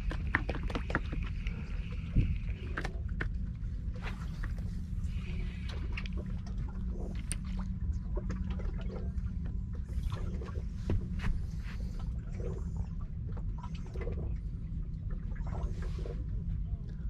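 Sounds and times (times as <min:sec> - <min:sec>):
boat engine rumble: 0:00.0 - 0:17.0
water lapping at hull: 0:00.0 - 0:17.0.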